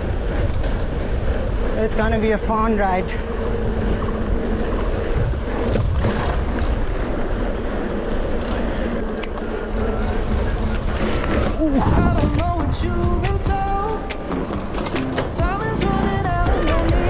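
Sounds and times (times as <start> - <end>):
bicycle tyre hum on pavement: 0.0 - 17.0
wind buffeting microphone: 0.0 - 17.0.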